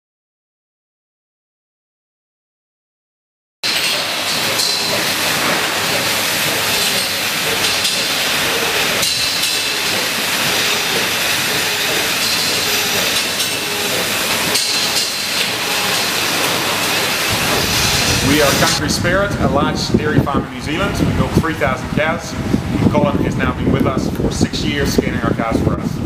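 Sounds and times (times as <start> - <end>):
milking machinery hiss and rumble: 3.6 - 26.0.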